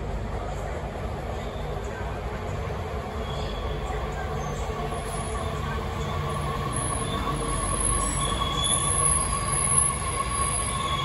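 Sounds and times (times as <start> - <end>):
train low rumble: 0.0 - 11.0
train high-pitched whine: 1.1 - 11.0.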